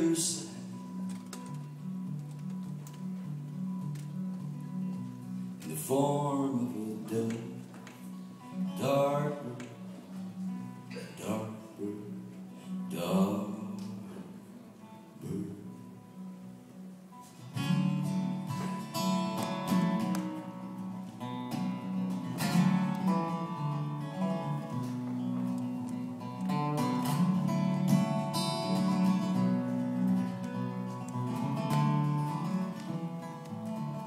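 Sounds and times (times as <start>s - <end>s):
acoustic guitar picked and strummed: 0.0s - 34.0s.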